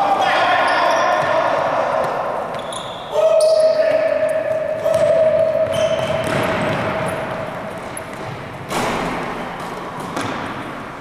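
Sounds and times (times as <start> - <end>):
basketballs bouncing in echoing hall: 0.0 - 11.0.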